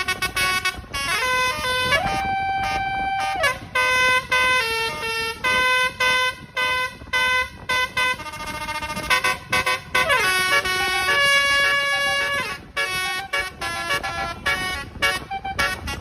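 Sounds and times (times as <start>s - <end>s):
multi-tone horn playing a tune: 0.0s - 16.0s.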